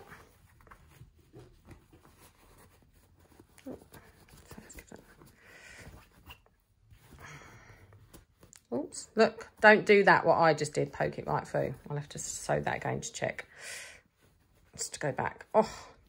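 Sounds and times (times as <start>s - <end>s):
fabric rustling and brushing: 0.0s - 13.3s, 14.0s - 15.6s.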